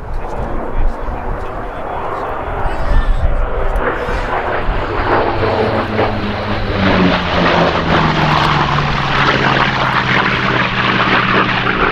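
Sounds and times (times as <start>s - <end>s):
propeller plane engine fly-by: 0.0s - 11.9s.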